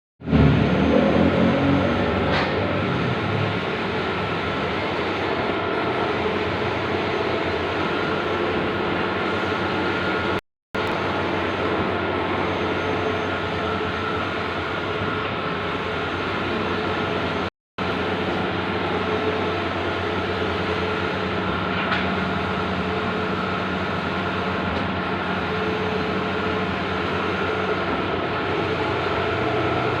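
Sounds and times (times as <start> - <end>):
printer mechanical whir: 0.3 - 30.0.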